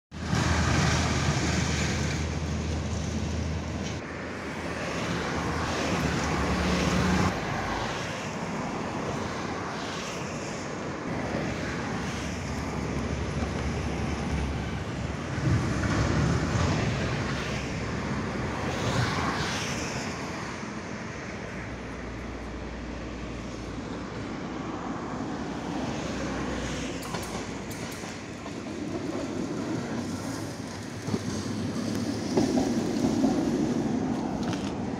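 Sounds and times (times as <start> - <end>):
traffic passing over bridge: 0.1 - 34.9.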